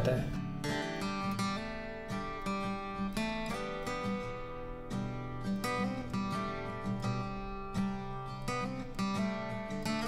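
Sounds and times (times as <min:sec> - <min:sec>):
strummed guitar music: 0:00.0 - 0:10.0.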